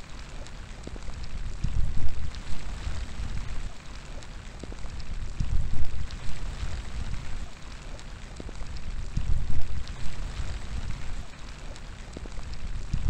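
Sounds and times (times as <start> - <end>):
rain hissing: 0.0 - 13.0
raindrops ticking: 0.0 - 13.0
wind rumbling on microphone: 0.0 - 13.0.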